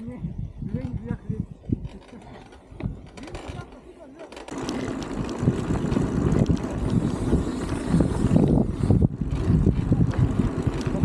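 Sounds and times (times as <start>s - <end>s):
wind buffeting microphone: 0.0s - 3.7s, 4.5s - 11.0s.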